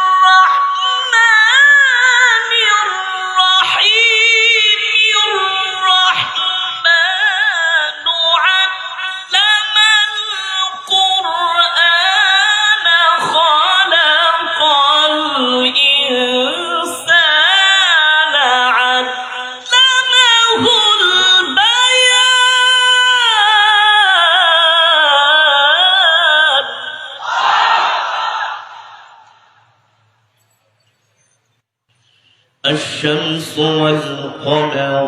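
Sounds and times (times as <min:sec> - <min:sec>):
person chanting melismatic recitation: 0:00.0 - 0:27.4, 0:32.6 - 0:35.0.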